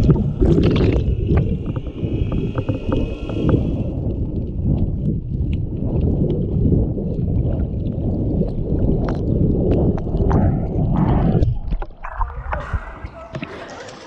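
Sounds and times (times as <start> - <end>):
muffled underwater rumble: 0.0 - 13.5.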